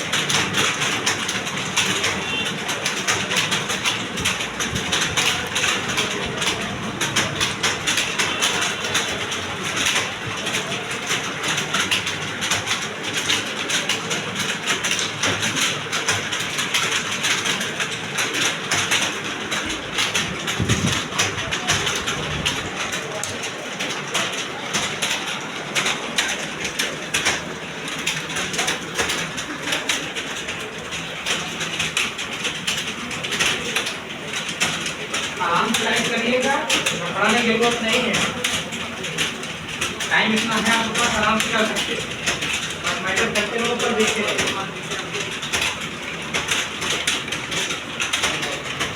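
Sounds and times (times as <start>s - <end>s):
many keyboards typing: 0.0s - 48.9s.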